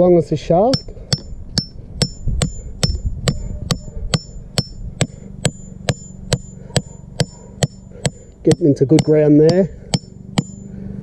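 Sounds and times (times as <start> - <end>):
hammer striking steel bolt: 0.7 - 10.7.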